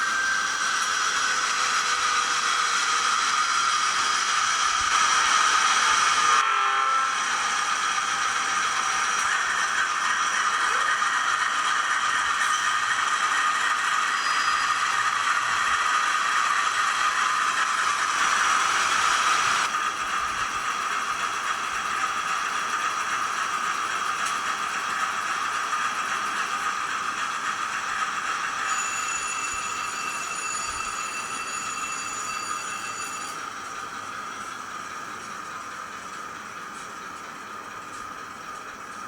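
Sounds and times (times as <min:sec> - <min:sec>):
model locomotive mechanical rattle: 0:00.0 - 0:06.4, 0:07.0 - 0:39.0.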